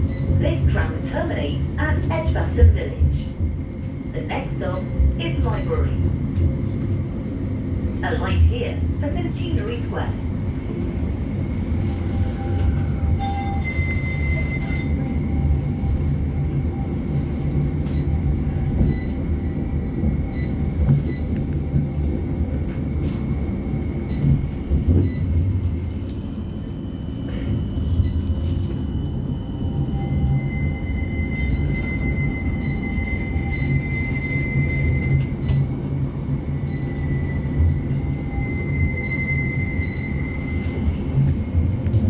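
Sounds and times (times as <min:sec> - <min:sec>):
tram rumbling: 0:00.0 - 0:42.0.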